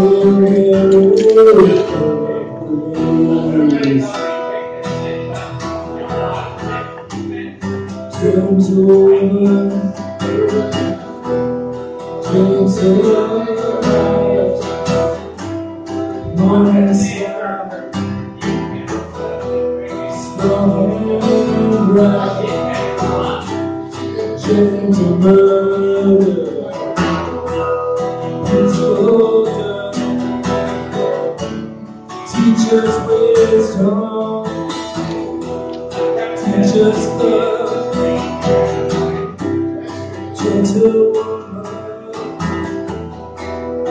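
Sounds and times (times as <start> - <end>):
acoustic guitar strummed and picked: 0.0 - 43.9
man singing: 0.0 - 43.9.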